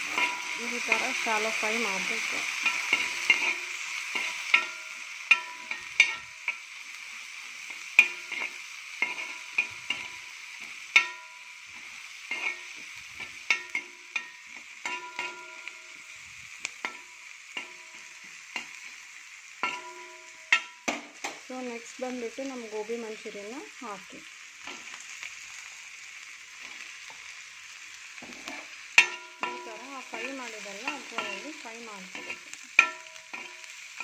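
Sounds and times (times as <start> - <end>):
metal spoon scraping a pan: 0.0 - 21.4, 24.6 - 25.3, 26.6 - 34.0
onions sizzling in oil: 0.0 - 34.0.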